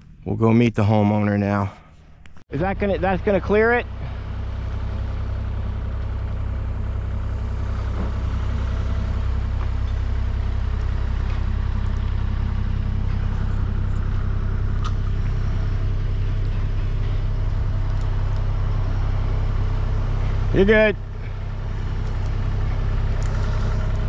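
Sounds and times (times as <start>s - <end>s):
truck engine humming: 0.0s - 24.0s.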